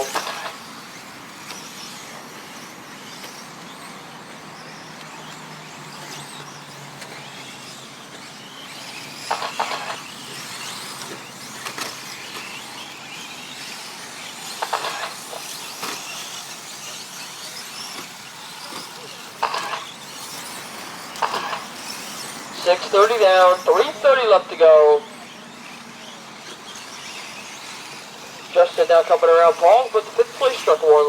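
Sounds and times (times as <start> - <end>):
rc truck passing: 0.0 - 31.0
rc trucks motors whining: 0.0 - 31.0.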